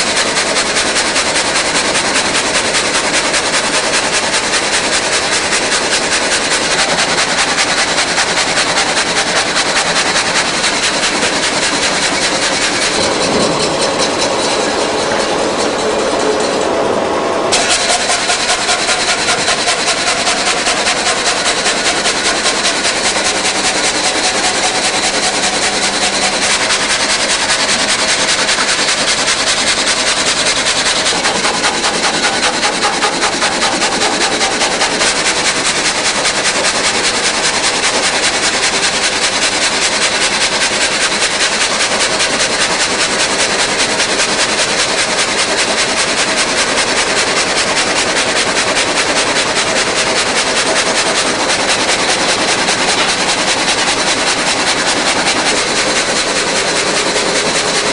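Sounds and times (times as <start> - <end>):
rip saw machine running: 0.0 - 57.9.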